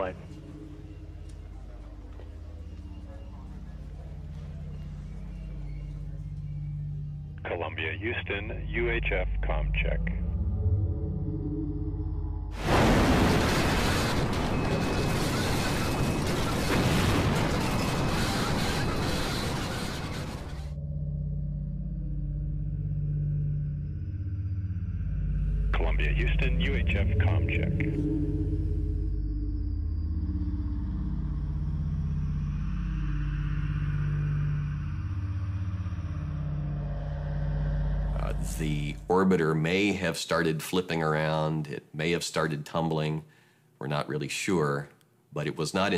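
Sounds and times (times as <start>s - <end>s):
low rumbling drone: 0.0s - 40.0s.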